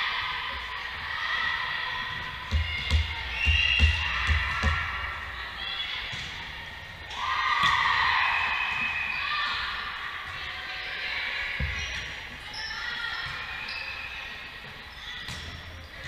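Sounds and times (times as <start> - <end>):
players and spectators calling out: 0.0 - 16.0.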